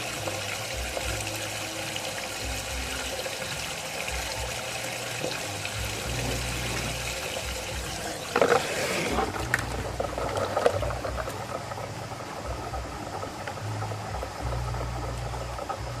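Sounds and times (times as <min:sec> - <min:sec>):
low hum: 0:00.0 - 0:16.0
water swirling: 0:00.0 - 0:16.0.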